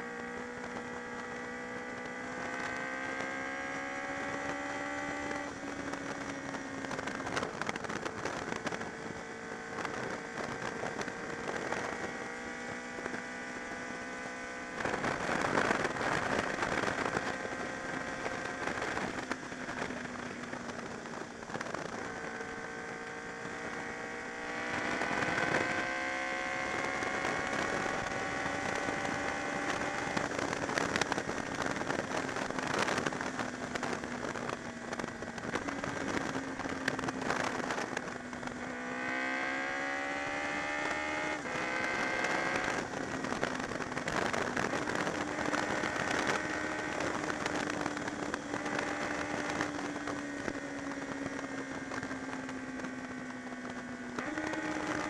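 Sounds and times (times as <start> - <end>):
motorcycle engine at speed: 0.0 - 55.0
wind buffeting microphone: 1.8 - 55.0.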